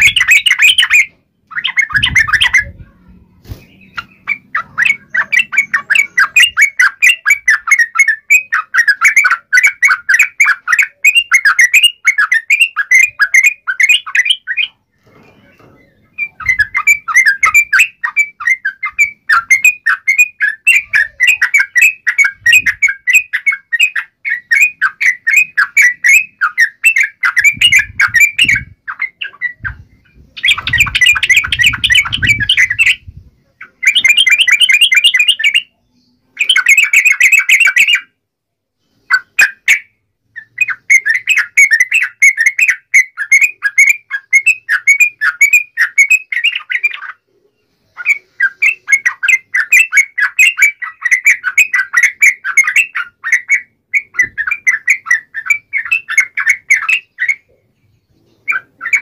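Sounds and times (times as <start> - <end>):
bulbuls chattering calls: 0.0 - 2.8, 3.4 - 23.5, 25.4 - 35.7, 40.6 - 59.0.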